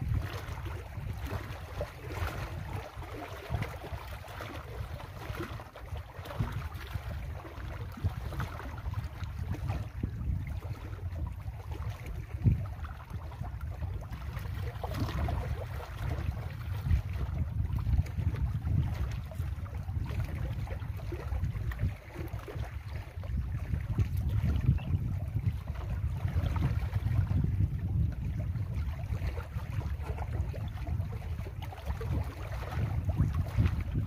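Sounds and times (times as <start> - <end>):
waves lapping against rocks: 0.0 - 34.0
wind buffeting microphone: 0.0 - 34.0.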